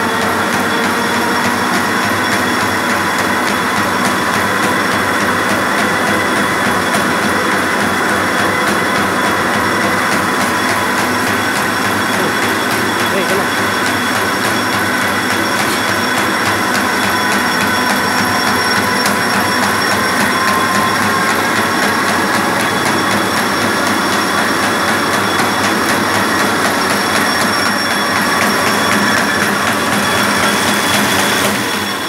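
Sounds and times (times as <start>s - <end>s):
collating machine clatter: 0.0s - 32.0s
high whining tones: 0.0s - 32.0s.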